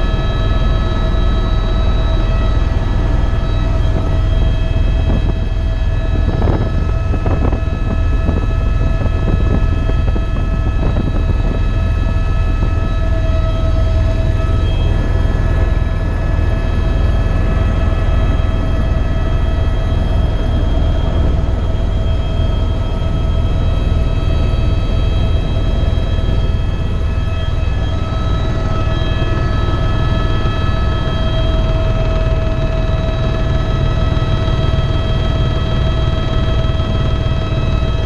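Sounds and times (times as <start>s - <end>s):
helicopter rotor and turbine drone: 0.0s - 38.0s.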